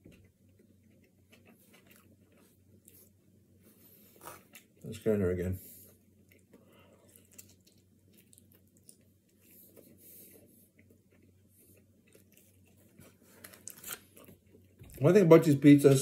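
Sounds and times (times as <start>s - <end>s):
faint chewing: 0.0s - 5.0s, 5.6s - 15.0s.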